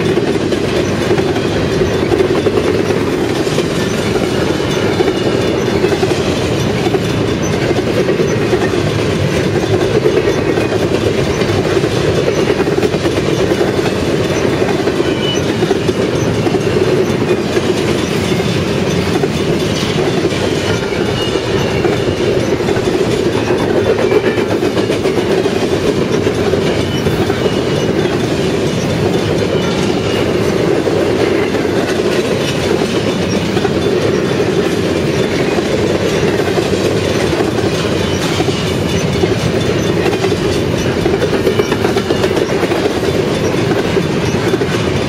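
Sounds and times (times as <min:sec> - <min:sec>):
train rumble: 0:00.0 - 0:45.0
train wheels clattering over joints: 0:00.0 - 0:45.0.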